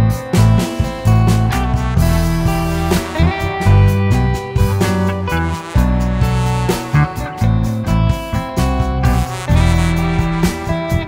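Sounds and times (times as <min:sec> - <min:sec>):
guitar music over strong bass: 0:00.0 - 0:11.0.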